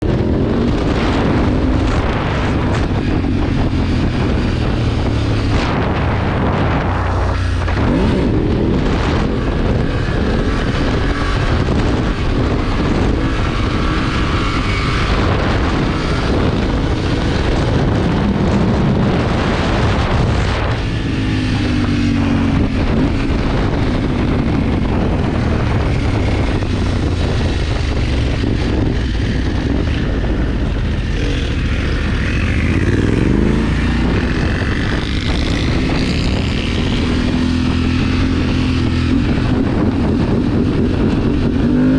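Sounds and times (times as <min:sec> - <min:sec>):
motorcycle engine revving: 0:00.0 - 0:41.9
wind rumble on microphone: 0:00.0 - 0:41.9.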